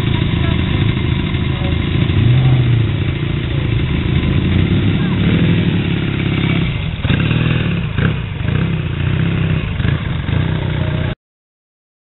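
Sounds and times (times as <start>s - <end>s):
car and motorcycle engines revving: 0.0s - 11.2s.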